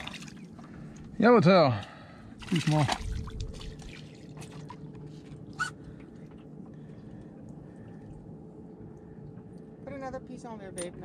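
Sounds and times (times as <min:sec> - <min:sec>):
water lapping against boat hull: 0:00.0 - 0:09.9
faint steady hum: 0:00.0 - 0:11.0.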